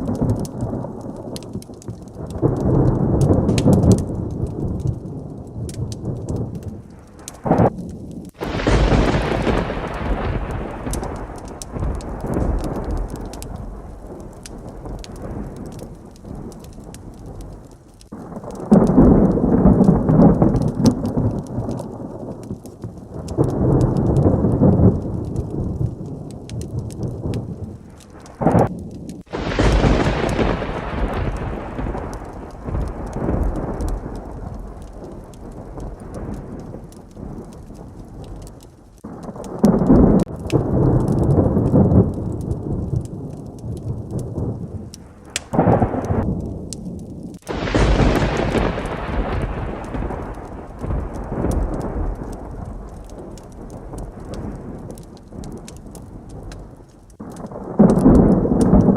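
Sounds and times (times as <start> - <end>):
sharp thunder crack: 0.0 - 58.9
steady rain: 0.0 - 58.9
thunder rumbling: 0.0 - 58.9.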